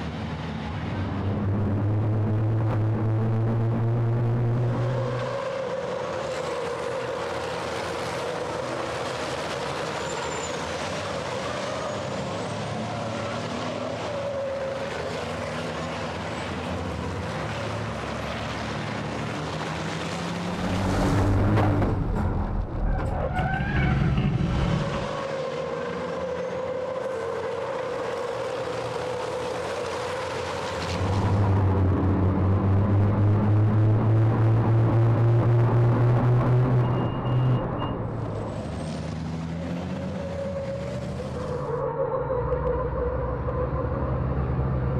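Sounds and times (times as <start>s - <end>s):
racing truck engines: 0.0s - 44.9s
truck passing close: 0.0s - 44.9s.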